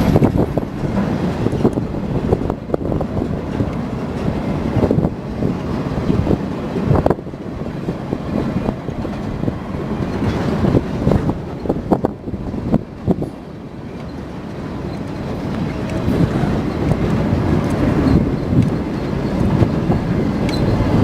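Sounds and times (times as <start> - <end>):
railroad cars rolling past: 0.0 - 21.0.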